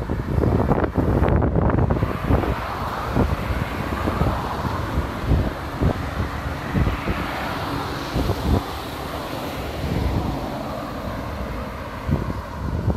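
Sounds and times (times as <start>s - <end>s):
road traffic rush: 0.0s - 12.9s
wind buffeting the microphone: 0.0s - 12.9s.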